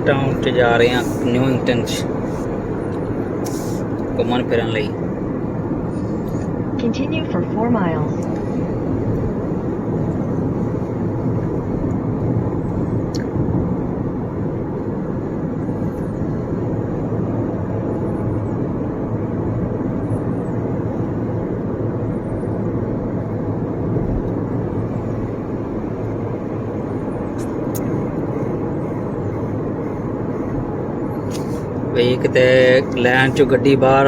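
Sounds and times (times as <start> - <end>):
car engine hum: 0.0 - 34.0
road and tyre noise: 0.0 - 34.0.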